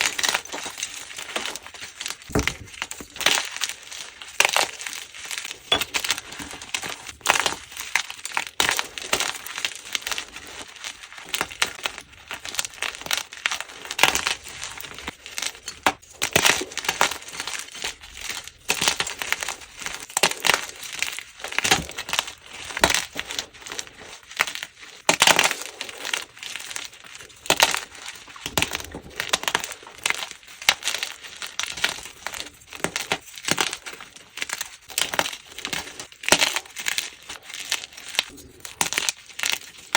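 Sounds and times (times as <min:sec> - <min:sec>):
chalk being crushed: 0:00.0 - 0:39.9.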